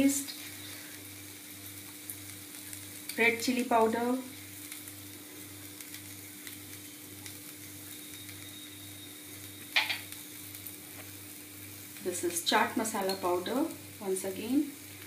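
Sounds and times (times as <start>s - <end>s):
faint sizzle from wok: 0.0s - 15.0s.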